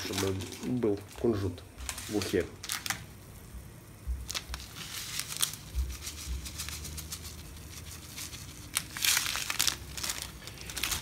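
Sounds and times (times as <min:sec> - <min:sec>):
seeds pattering into a pot: 0:00.0 - 0:11.0.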